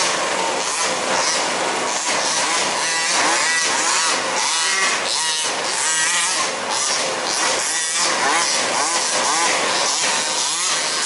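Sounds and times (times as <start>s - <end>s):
rc car engines revving: 0.0s - 11.0s.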